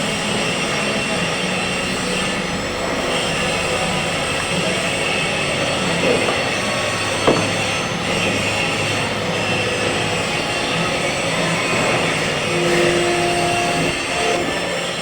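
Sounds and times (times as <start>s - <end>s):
welding arc buzzing: 1.3s - 15.0s.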